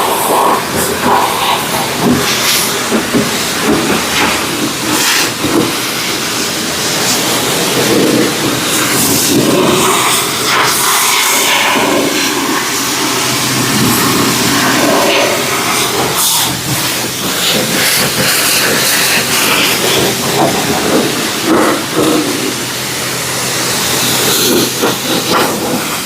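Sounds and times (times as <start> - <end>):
pressure washer spray hissing: 0.0 - 26.0.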